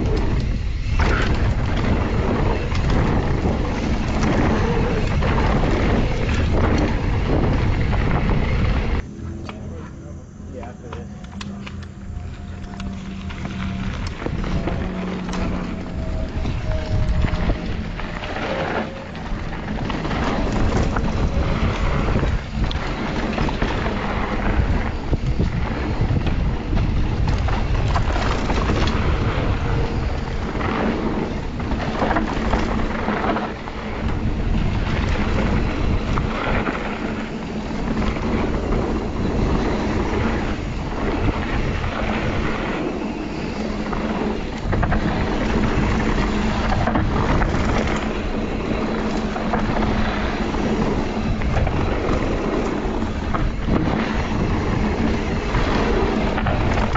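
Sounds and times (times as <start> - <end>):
tyres rolling on dirt trail: 0.0 - 9.1, 10.2 - 56.9
wind buffeting microphone: 0.0 - 9.1, 12.0 - 56.9.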